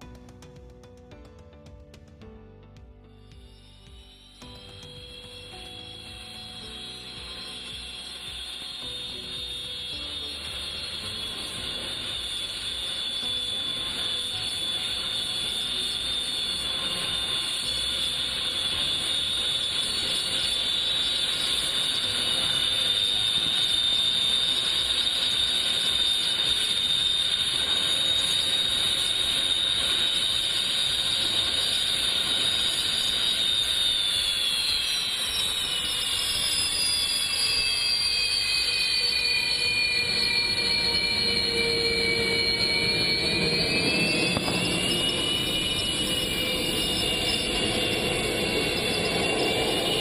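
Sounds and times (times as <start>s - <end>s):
jet engines high-pitched whine: 3.1s - 50.0s.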